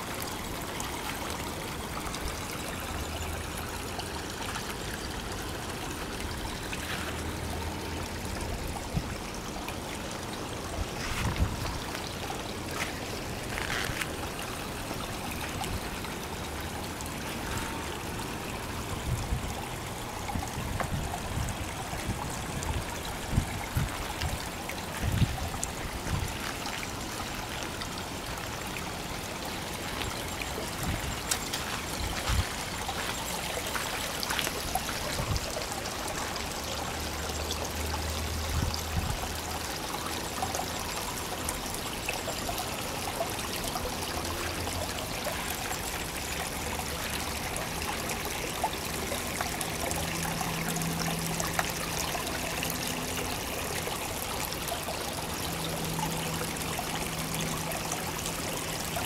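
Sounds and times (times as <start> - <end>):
water splashing into pond: 0.0 - 59.0.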